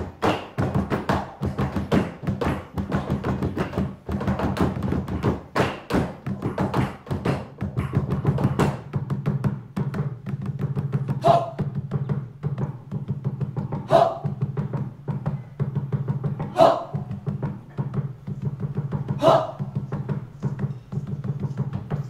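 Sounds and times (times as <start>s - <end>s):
ensemble drumming on buckets: 0.0s - 22.0s.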